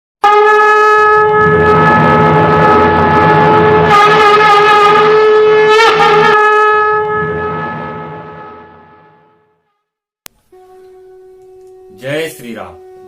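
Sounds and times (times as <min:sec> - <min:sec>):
conch shell blown: 0:00.2 - 0:13.0.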